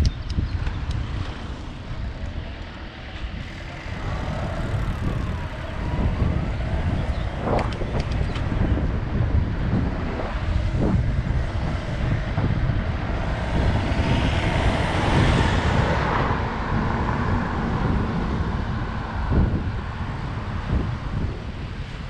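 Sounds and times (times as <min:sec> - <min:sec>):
wind rumble on microphone: 0:00.0 - 0:22.0
car passing: 0:01.0 - 0:22.0.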